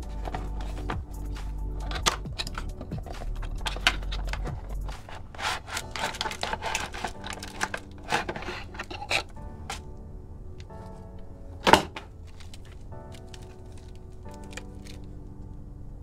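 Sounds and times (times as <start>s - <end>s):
packaging rubbing and crinkling: 0.0s - 9.9s, 10.6s - 15.0s.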